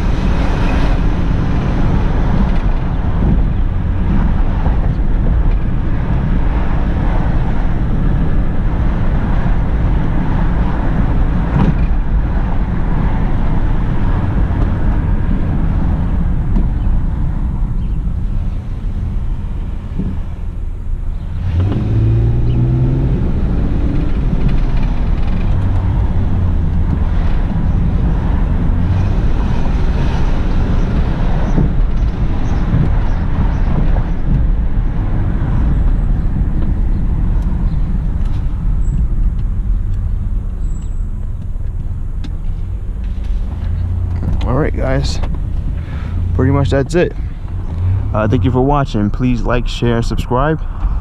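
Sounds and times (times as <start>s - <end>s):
car engine accelerating: 0.0s - 51.0s
road noise: 0.0s - 51.0s.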